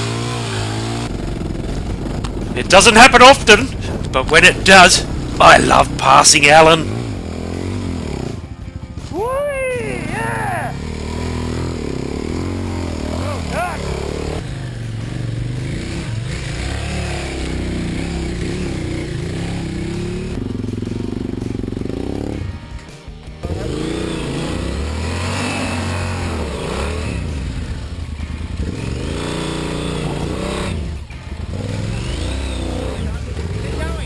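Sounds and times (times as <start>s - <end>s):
background music: 0.0s - 34.0s
motorcycle engines revving: 0.0s - 34.0s.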